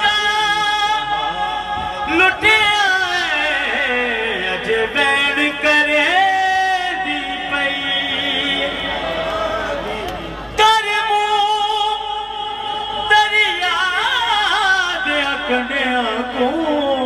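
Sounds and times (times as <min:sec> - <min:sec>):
man singing a lament: 0:00.0 - 0:09.3, 0:10.6 - 0:17.0.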